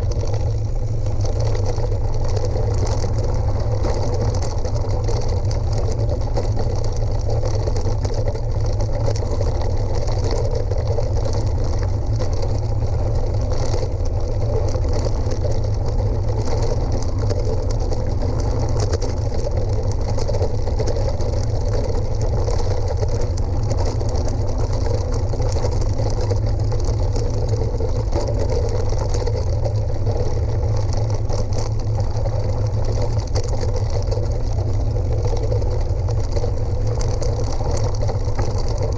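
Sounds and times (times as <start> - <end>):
vehicle rumbling on gravel: 0.0 - 38.9.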